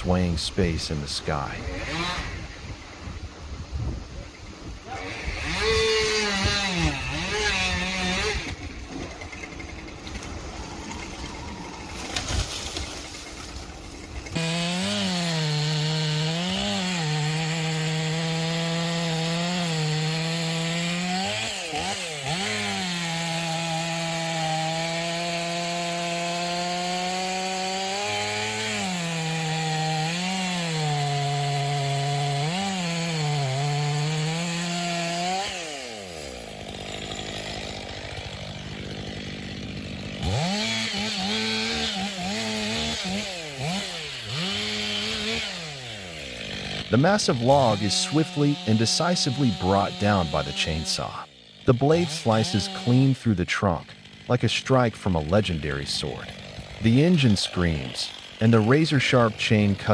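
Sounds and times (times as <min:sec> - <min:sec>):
chainsaw cutting: 0:00.0 - 0:59.9.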